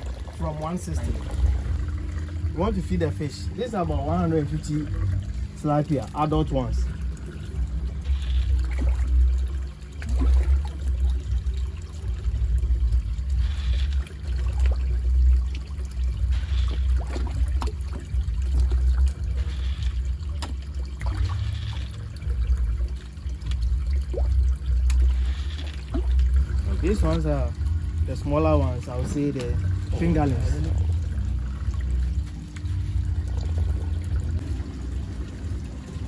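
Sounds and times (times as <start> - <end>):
steady low rumble: 0.0 - 36.0
water trickling into tank: 0.0 - 36.0.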